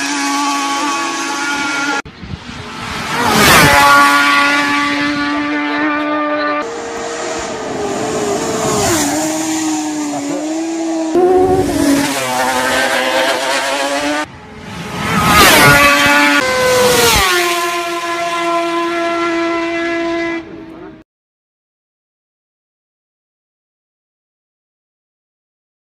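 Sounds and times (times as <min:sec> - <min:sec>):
racing motorcycle passing at speed: 0:00.0 - 0:21.0.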